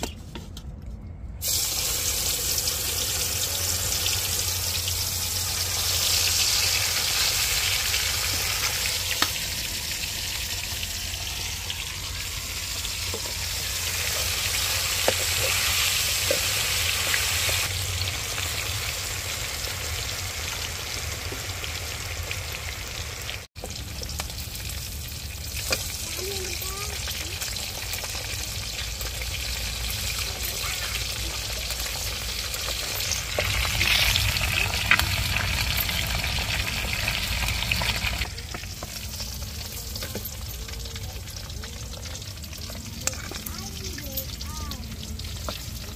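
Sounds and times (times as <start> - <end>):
chicken frying in hot oil: 1.4 - 45.9.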